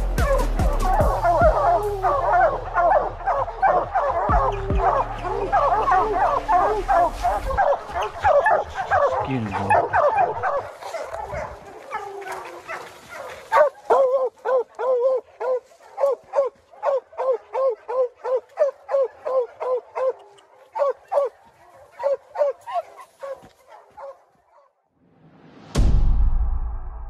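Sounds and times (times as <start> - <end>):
hound baying: 0.1 - 24.7
dog barking: 0.2 - 24.8.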